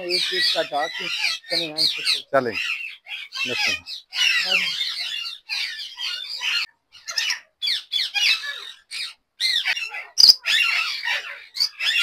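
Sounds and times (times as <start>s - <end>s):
parrots squawking and screeching: 0.0s - 12.0s.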